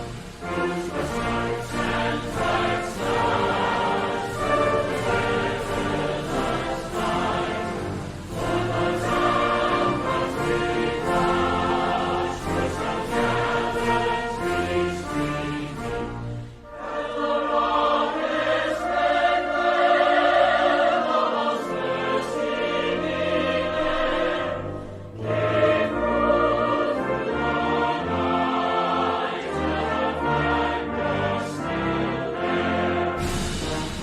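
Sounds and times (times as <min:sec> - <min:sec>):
choir singing with orchestra: 0:00.0 - 0:34.0.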